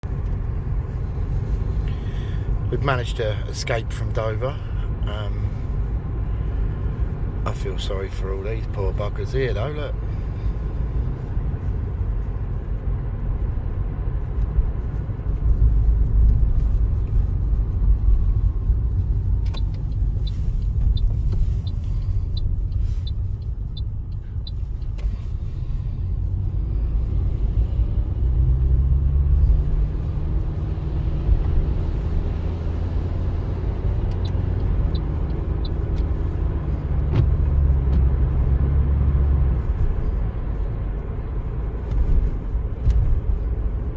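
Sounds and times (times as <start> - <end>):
engine and road rumble: 0.0 - 43.9.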